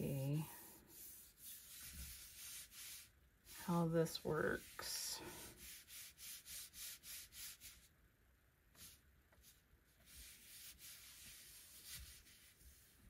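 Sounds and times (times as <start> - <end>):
palms rubbing paper: 0.0 - 7.9, 8.7 - 13.0.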